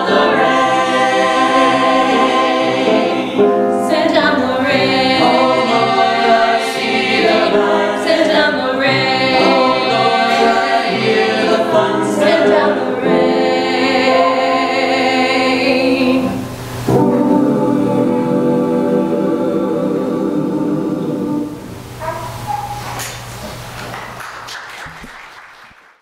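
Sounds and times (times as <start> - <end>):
mixed choir singing in harmony: 0.0 - 22.6.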